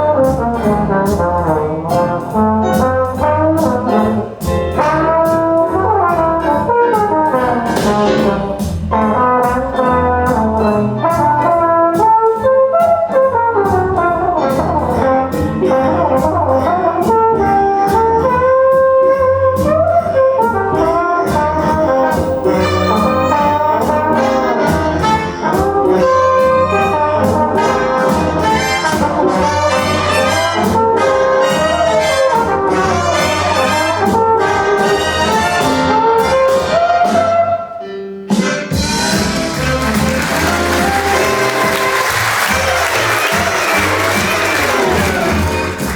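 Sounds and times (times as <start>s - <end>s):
drums keeping a steady beat: 0.0s - 37.5s, 38.3s - 45.9s
trumpets and trombones: 0.0s - 37.8s, 38.4s - 45.9s.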